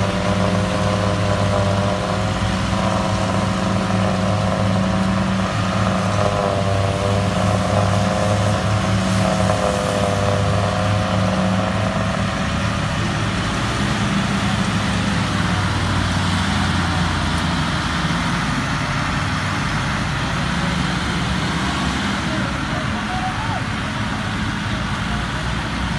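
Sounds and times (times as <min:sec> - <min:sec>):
diesel tractor engines droning: 0:00.0 - 0:25.9.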